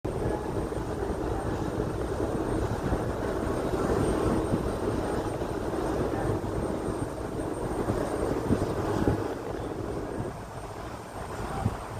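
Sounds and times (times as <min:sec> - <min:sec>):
aircraft engine rumble: 0:00.0 - 0:11.9.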